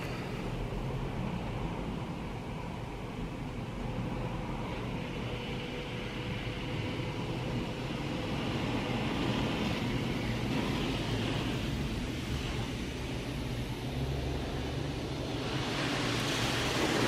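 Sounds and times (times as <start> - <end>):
car wash machine hum: 0.0 - 17.0.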